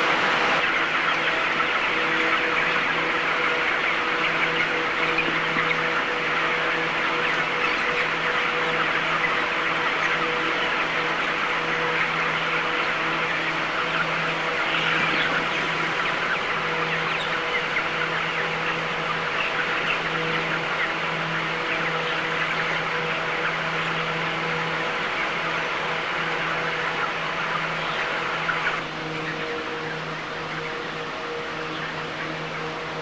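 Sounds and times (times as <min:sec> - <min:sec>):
chickens chirping and clucking: 0:00.0 - 0:33.0
low machine hum: 0:00.0 - 0:33.0.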